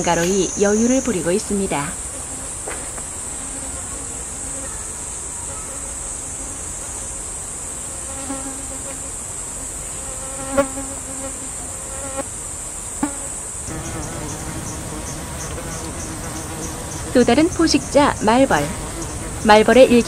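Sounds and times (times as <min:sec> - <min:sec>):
flying insect buzzing: 0:00.0 - 0:20.0
insect chorus: 0:00.0 - 0:20.0.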